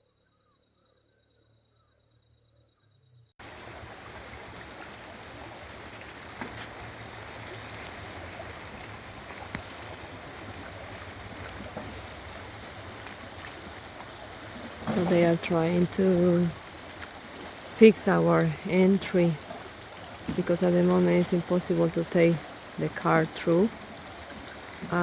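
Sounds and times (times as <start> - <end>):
river water flowing: 3.4 - 25.0.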